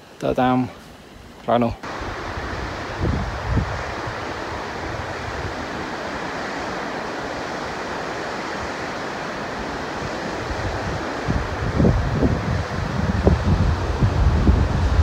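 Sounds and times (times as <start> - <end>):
mountain water rushing: 0.0 - 15.0.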